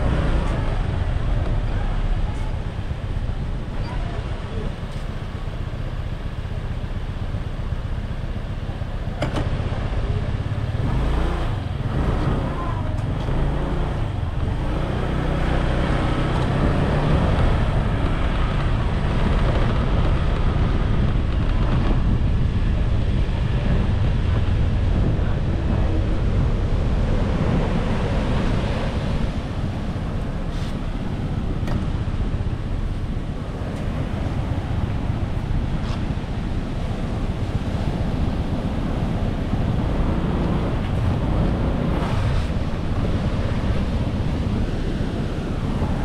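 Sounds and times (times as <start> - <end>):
road noise: 0.0 - 46.0
wind buffeting microphone: 0.0 - 46.0.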